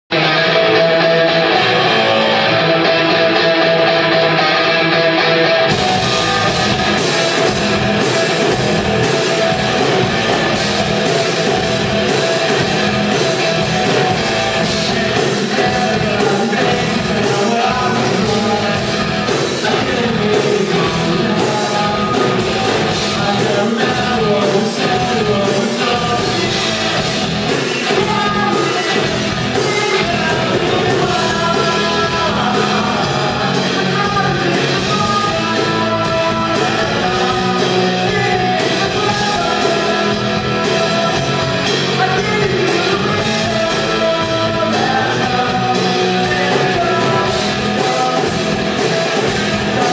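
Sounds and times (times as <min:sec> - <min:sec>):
electric guitar: 0:00.0 - 0:49.9
person singing: 0:00.1 - 0:49.9
drums and cymbals: 0:05.6 - 0:49.9.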